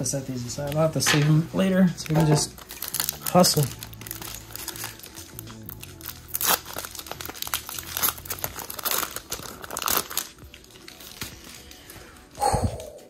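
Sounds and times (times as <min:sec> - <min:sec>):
foil wrappers crinkling and tearing: 0:00.4 - 0:12.3.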